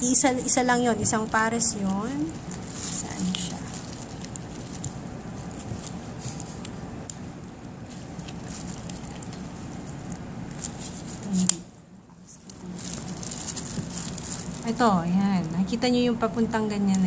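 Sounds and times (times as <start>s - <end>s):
room noise: 0.0s - 17.0s.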